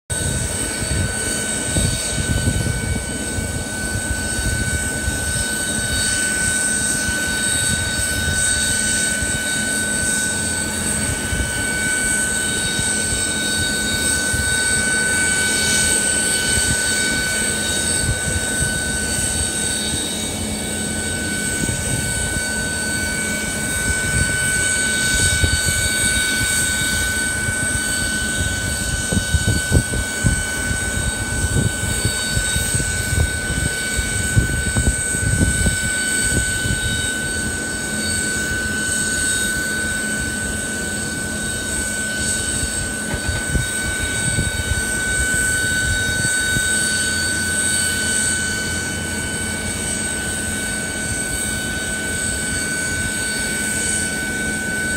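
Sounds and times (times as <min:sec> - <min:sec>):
aircraft turbine whine and rumble: 0:00.0 - 0:54.9
wind on microphone: 0:00.1 - 0:54.9.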